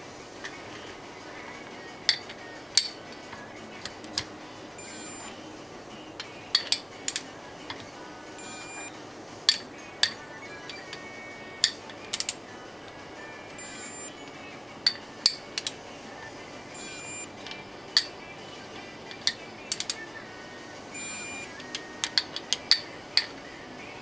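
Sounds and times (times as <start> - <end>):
faint background music: 0.0 - 24.0.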